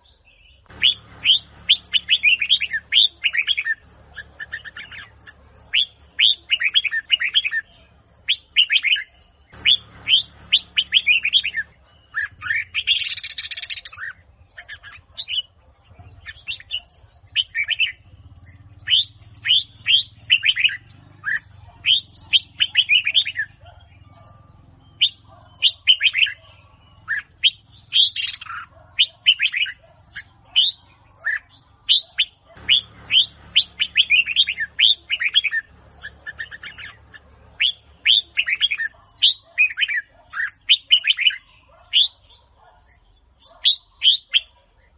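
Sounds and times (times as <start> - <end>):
bird singing whistled notes: 0.0 - 44.9.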